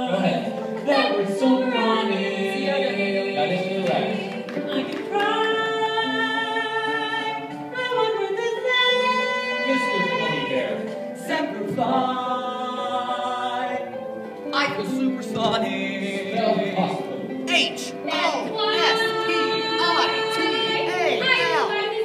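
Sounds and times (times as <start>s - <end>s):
voices singing held chords: 0.0s - 22.0s.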